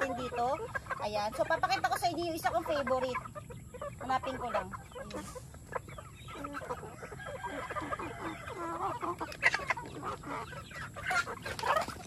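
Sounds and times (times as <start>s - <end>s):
chickens clucking and chirping: 0.0s - 12.0s.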